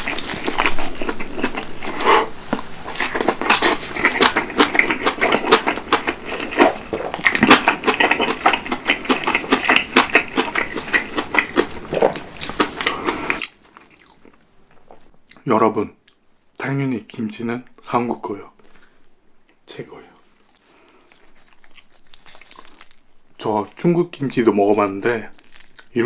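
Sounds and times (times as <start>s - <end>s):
wet crunchy chewing: 0.0s - 15.4s, 20.3s - 26.0s.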